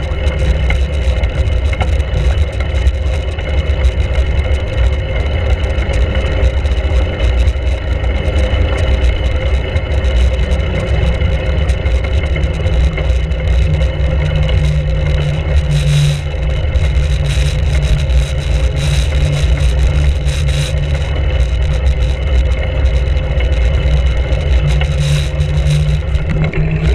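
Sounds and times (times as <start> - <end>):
tyre and road noise: 0.0 - 26.9.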